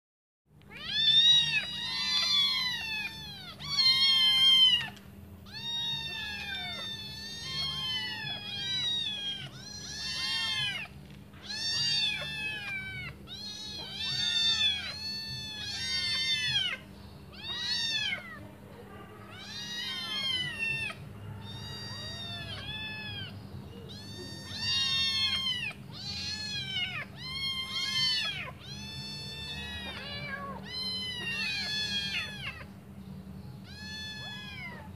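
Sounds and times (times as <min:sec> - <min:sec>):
kittens meowing: 0:00.6 - 0:32.8, 0:33.4 - 0:34.9.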